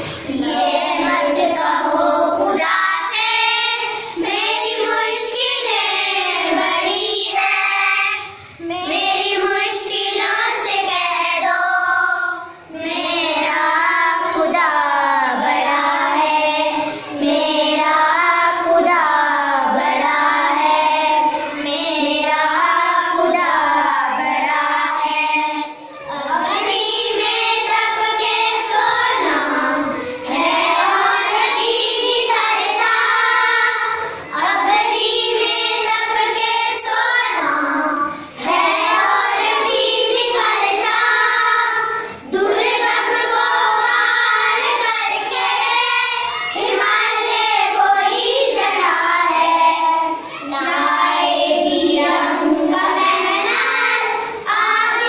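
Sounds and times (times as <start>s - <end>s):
children singing: 0.0s - 55.0s.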